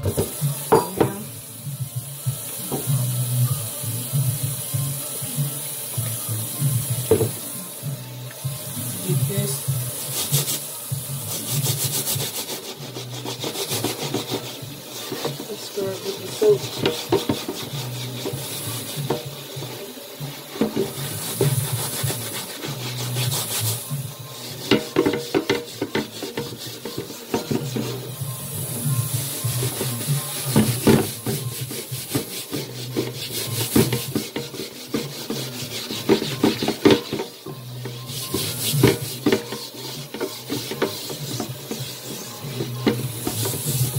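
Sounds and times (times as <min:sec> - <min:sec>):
running tap water: 0:00.0 - 0:43.9
scrubber scraping a pan: 0:08.5 - 0:43.9.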